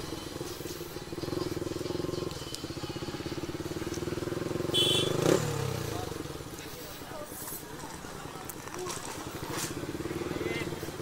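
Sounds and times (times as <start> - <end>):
motorcycle engine at low revs: 0.0 - 6.8, 7.8 - 11.0.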